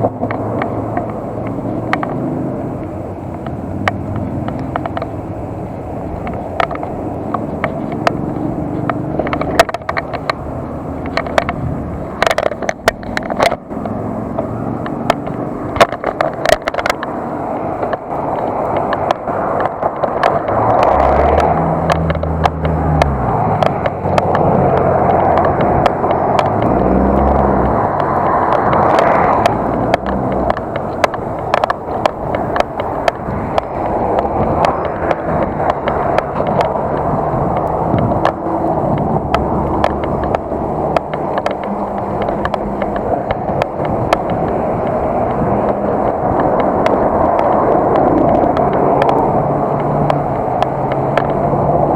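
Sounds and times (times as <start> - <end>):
bicycle rattling over bumps: 0.0 - 51.9
bicycle tyre and wind noise: 0.0 - 51.9.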